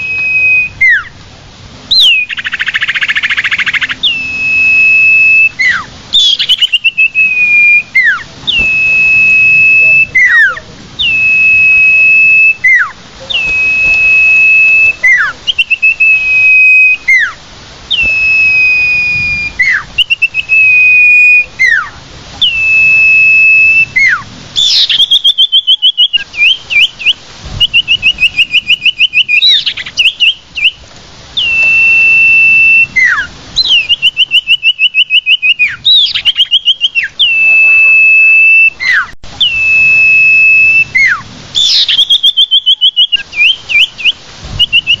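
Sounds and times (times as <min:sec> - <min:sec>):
bird long level whistles: 0:00.0 - 0:01.2, 0:01.9 - 0:30.8, 0:31.4 - 0:45.0
fast bird trills: 0:01.9 - 0:22.6, 0:23.8 - 0:30.8, 0:31.4 - 0:39.7, 0:40.6 - 0:45.0.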